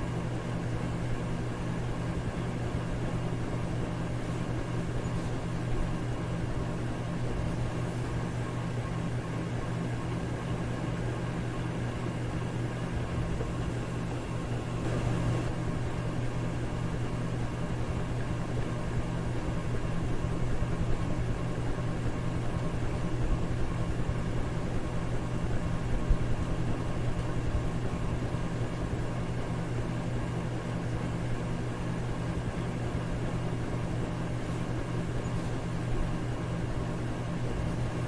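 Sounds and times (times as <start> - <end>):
electric fan whooshing: 0.0 - 38.0.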